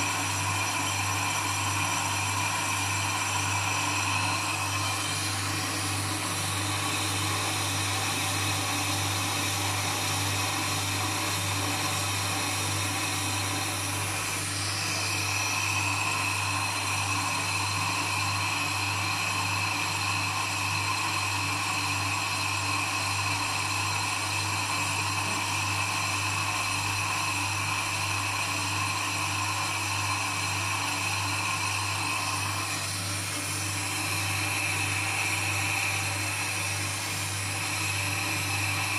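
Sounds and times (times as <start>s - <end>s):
cutting tool whine: 0.0s - 38.9s.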